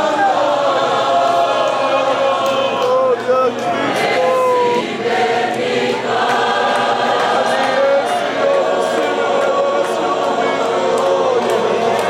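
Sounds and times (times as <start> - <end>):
church choir singing: 0.0 - 12.0.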